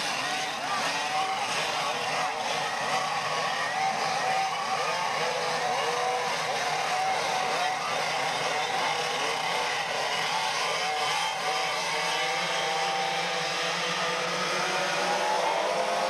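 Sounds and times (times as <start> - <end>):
go-kart engines screaming: 0.0 - 16.0.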